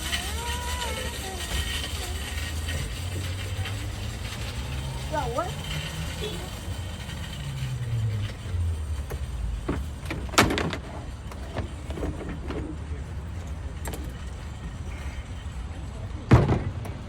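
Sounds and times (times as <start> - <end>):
low rumble: 0.0 - 16.8
bicycles knocking and clunking: 0.0 - 17.0.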